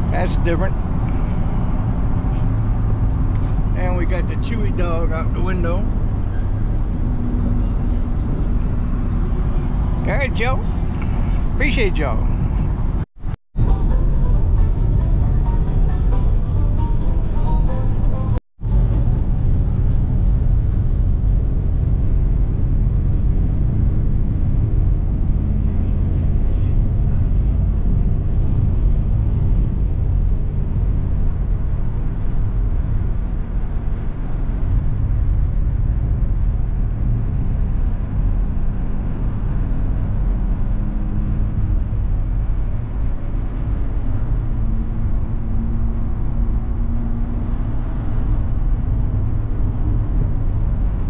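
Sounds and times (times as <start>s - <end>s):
vehicle driving on road: 0.0s - 51.0s.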